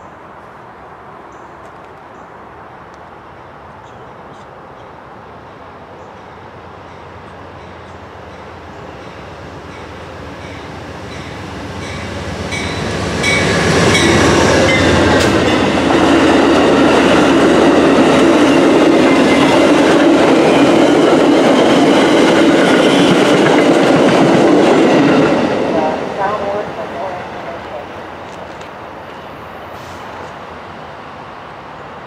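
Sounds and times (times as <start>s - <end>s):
passenger train rumbling past: 2.4s - 32.0s.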